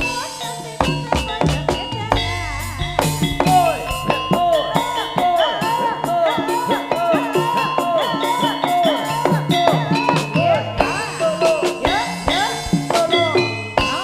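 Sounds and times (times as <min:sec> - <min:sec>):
drums in quick rhythm: 0:00.0 - 0:14.0
wavering melody: 0:00.0 - 0:14.0.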